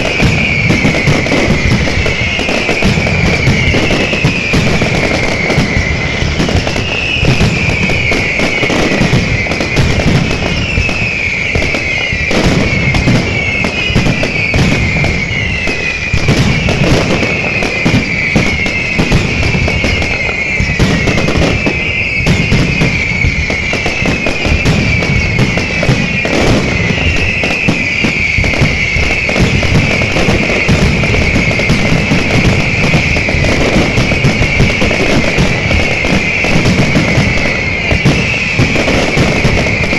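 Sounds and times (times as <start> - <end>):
falling whistle tone: 0.0 - 39.9
fireworks bangs and crackling: 0.0 - 39.9.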